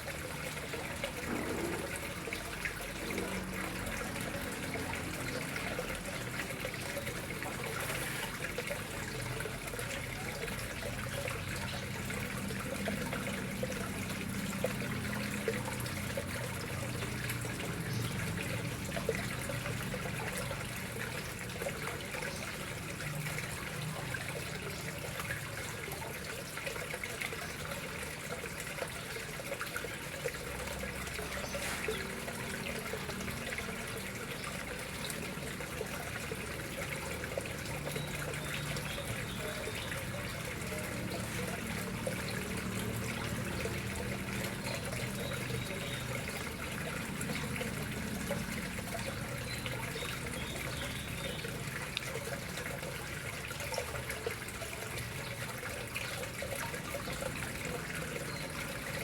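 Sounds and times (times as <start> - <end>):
water trickling into pond: 0.0 - 59.0.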